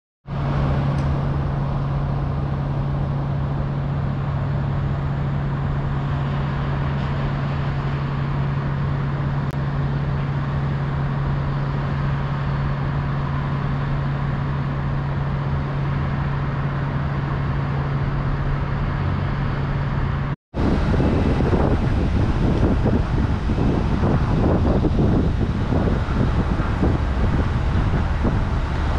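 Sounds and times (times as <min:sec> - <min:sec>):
rumbling street noise: 0:00.2 - 0:28.9
traffic noise: 0:00.2 - 0:28.9
steady low hum: 0:00.3 - 0:28.9.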